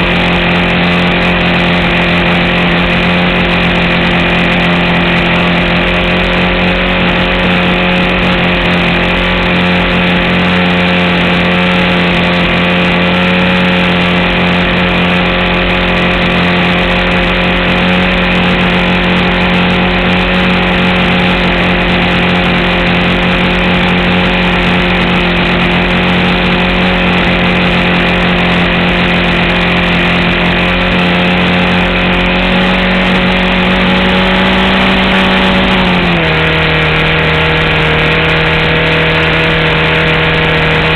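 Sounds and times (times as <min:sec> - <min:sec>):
model airplane engine running: 0:00.0 - 0:40.9
wind rush: 0:00.0 - 0:40.9.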